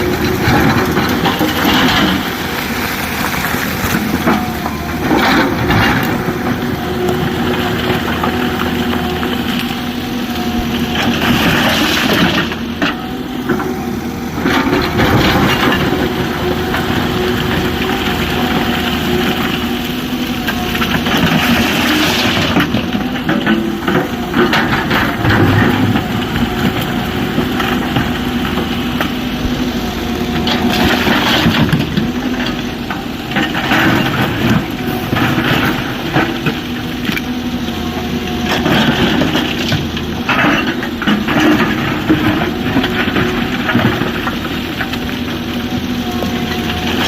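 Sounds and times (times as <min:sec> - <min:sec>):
excavator diesel engine running: 0:00.0 - 0:47.0
rock crunching and clattering: 0:00.0 - 0:47.0.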